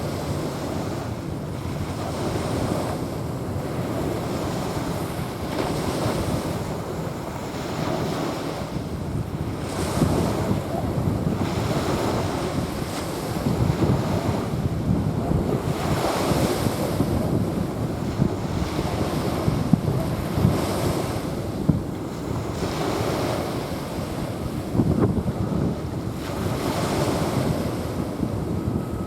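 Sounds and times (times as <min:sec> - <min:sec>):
small waves breaking on beach: 0:00.0 - 0:29.0
wind rumbling on microphone: 0:00.0 - 0:29.0.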